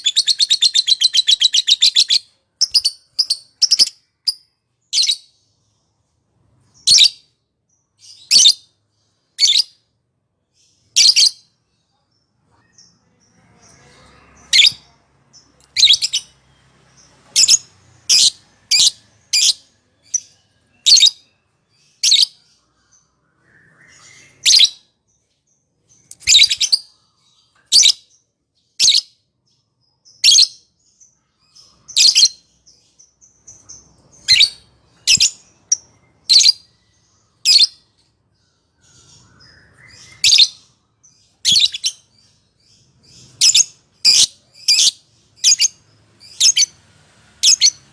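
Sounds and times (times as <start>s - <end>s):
lovebird chirping: 0.0s - 47.9s.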